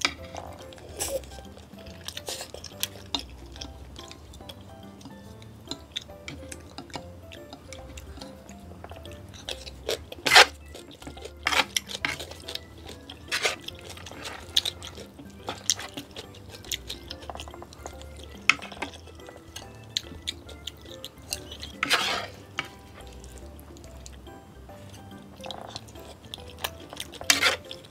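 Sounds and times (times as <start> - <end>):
soft background music: 0.0 - 27.9.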